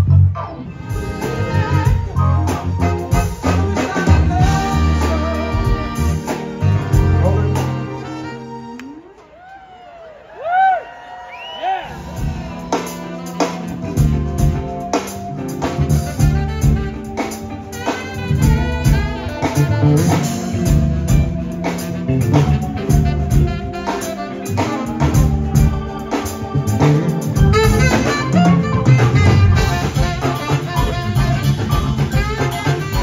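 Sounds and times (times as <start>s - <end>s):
bass: 0.0s - 9.2s, 11.4s - 33.0s
guitar: 0.0s - 9.3s, 11.9s - 33.0s
horn lines: 0.0s - 33.0s
drum kit beat: 0.8s - 9.5s, 11.8s - 33.0s.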